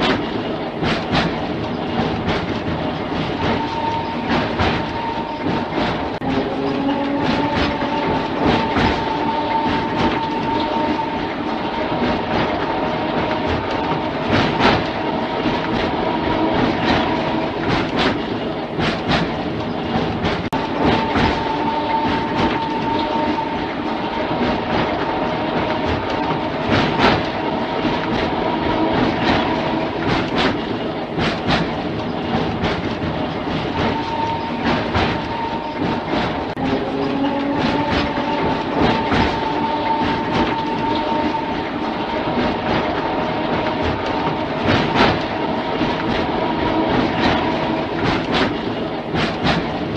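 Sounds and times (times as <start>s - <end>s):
tram running noise: 0.0s - 49.9s
tram wheels clicking over rail joints: 0.0s - 49.9s.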